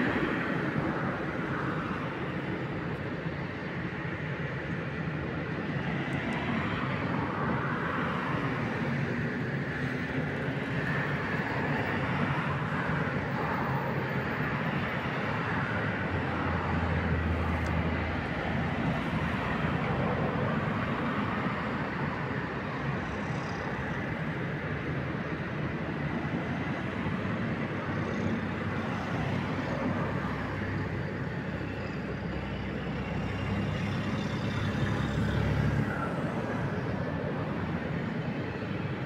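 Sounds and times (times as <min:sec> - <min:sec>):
railway station roar: 0:00.0 - 0:39.0.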